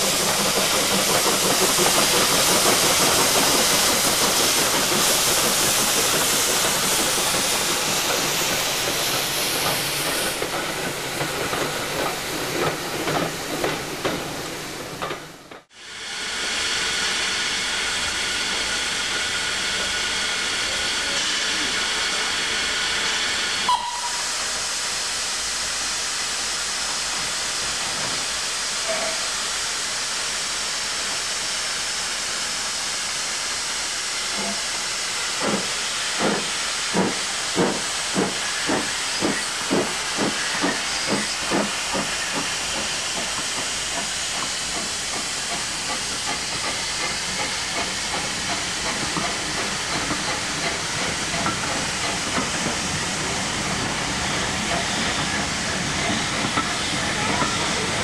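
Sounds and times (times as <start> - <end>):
steam engine exhaust beats: 0.0 - 58.0
steam hissing: 0.0 - 58.0.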